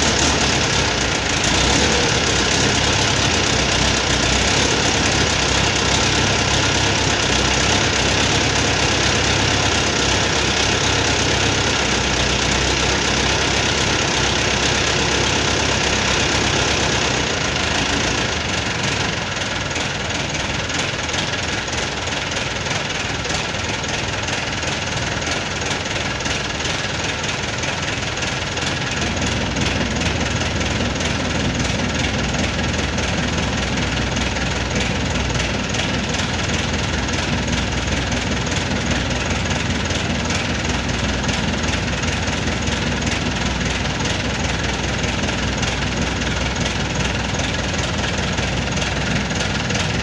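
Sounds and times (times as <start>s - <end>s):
diesel truck engine idling: 0.0s - 50.0s.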